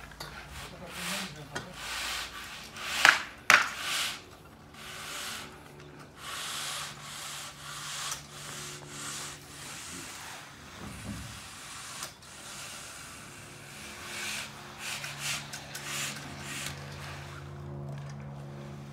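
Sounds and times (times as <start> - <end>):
concrete float scraping wet concrete: 0.0 - 18.9.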